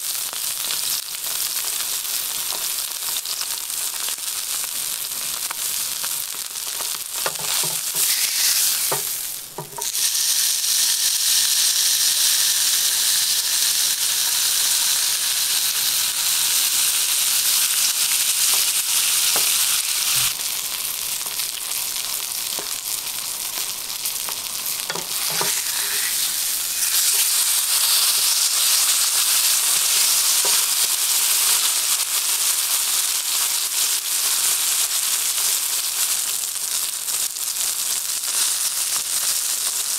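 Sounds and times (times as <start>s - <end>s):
steak sizzling in a pan: 0.0s - 39.9s.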